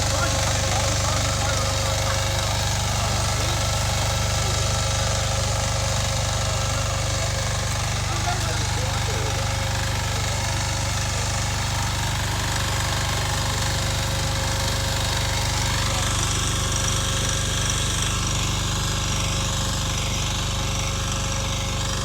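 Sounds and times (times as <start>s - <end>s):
tractor engine chugging: 0.0s - 22.0s.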